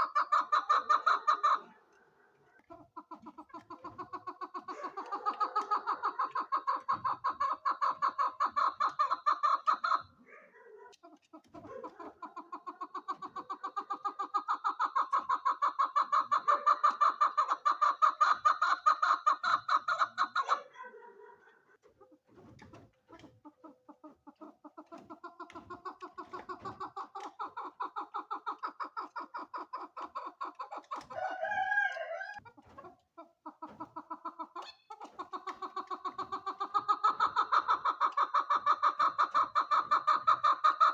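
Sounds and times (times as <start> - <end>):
partridge clucking: 0.0 - 10.2, 10.8 - 20.7, 21.8 - 40.9.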